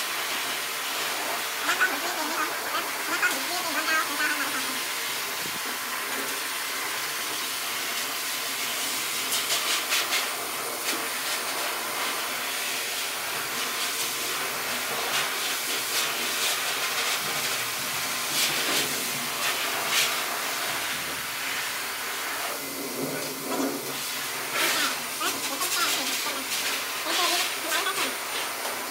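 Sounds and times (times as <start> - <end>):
electric dog clippers running: 0.0 - 28.9.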